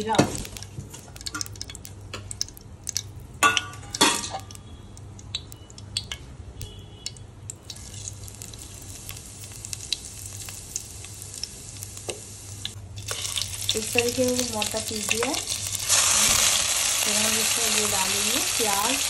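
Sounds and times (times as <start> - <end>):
seeds frying in hot oil: 0.0 - 19.0.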